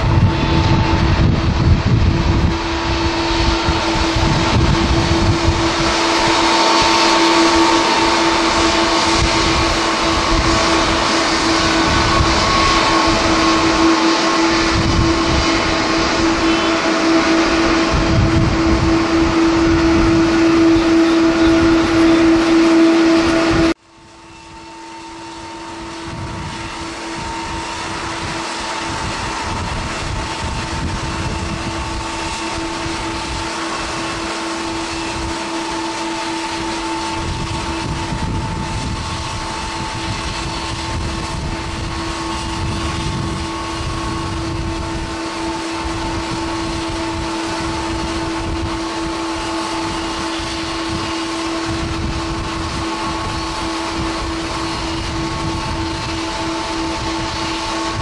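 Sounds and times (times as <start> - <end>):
jet airliner rumble: 0.0 - 58.0
jet engines on runway: 0.0 - 58.0.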